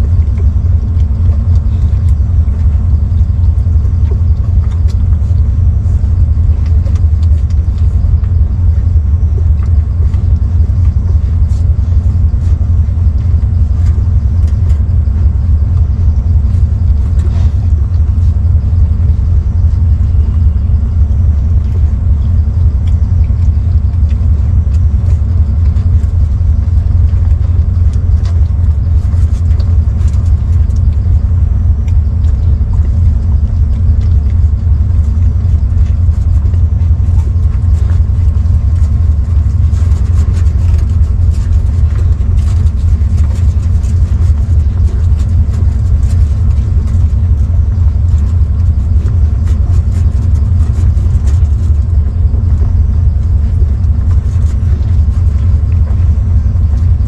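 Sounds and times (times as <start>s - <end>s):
loud low rumble: 0.0s - 57.0s.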